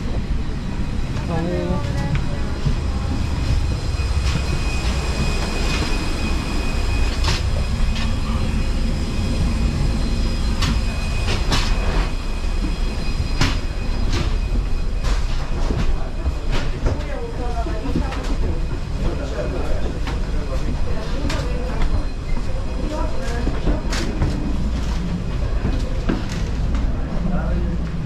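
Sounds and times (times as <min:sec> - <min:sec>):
aircraft cabin rumble: 0:00.0 - 0:28.0
high engine whine: 0:00.0 - 0:28.0.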